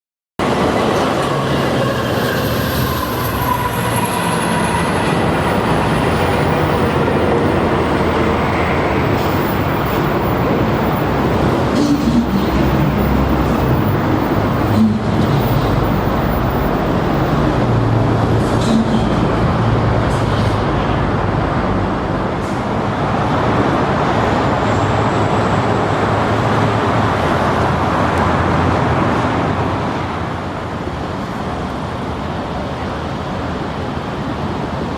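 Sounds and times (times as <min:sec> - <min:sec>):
train wheels rumbling on rail: 0:00.4 - 0:34.9.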